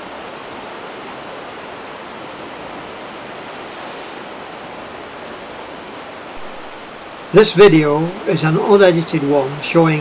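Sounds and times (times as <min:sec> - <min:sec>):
steady rushing sea-cliff noise: 0:00.0 - 0:10.0.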